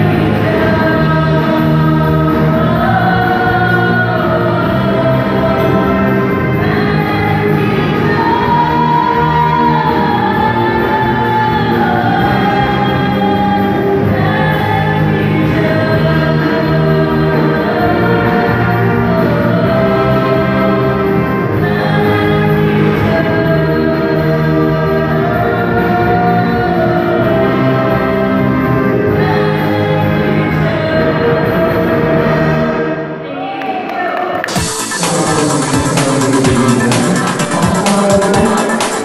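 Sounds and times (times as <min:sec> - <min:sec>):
group singing over a pa: 0:00.0 - 0:33.5, 0:34.3 - 0:39.0.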